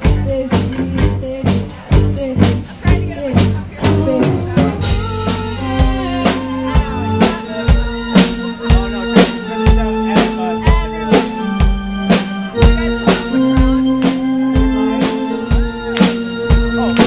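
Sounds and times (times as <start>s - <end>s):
drum kit beat: 0.0s - 17.0s
electric guitars: 0.0s - 17.0s.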